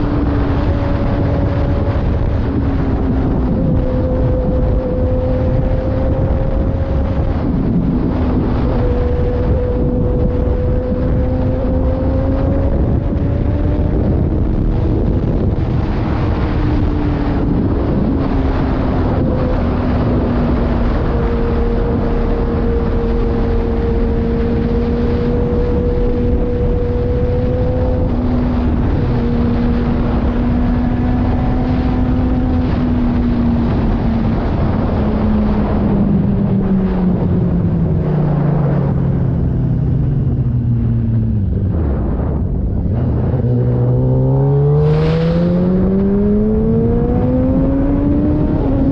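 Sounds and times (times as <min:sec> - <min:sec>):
wind noise on microphone: 0:00.0 - 0:48.9.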